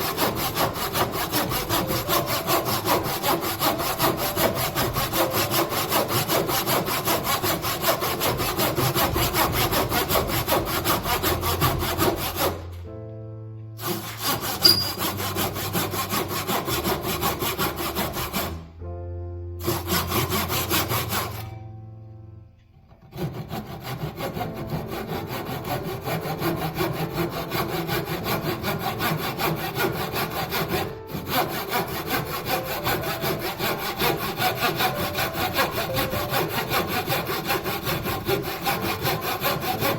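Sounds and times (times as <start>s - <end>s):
saw cutting wood: 0.0s - 12.9s, 13.8s - 18.6s, 19.6s - 21.6s, 23.1s - 39.9s
soft background music: 0.0s - 39.9s.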